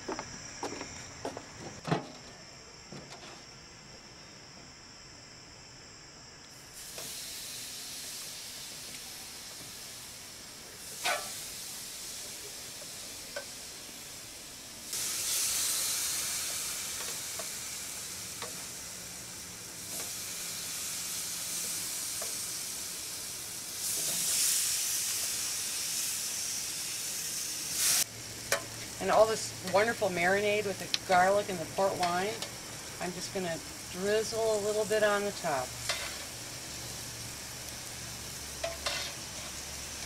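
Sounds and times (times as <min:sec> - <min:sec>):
chicken sizzling on grill: 0:06.5 - 0:40.0.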